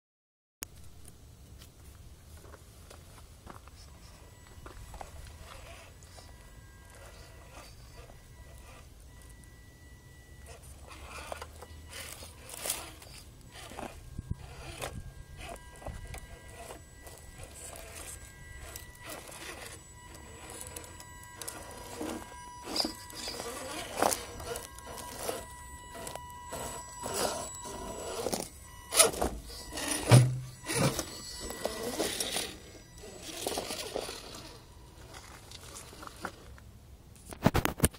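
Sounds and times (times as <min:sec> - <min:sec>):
electric drive whine: 0:00.8 - 0:36.6.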